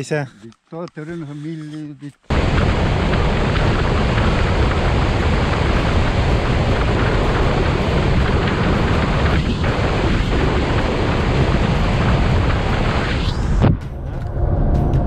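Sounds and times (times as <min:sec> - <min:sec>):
wind buffeting microphone: 0:02.3 - 0:15.0.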